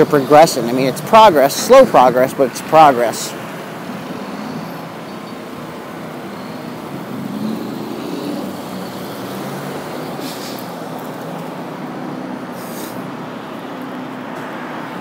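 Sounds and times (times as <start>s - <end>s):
street traffic: 0.0s - 15.0s
vehicle engine running nearby: 0.0s - 15.0s.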